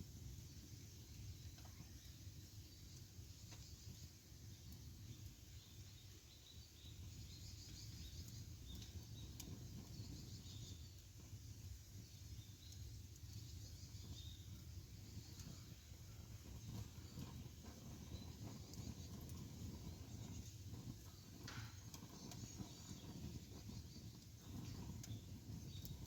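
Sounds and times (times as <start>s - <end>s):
campfire burning and crackling: 0.0s - 26.0s.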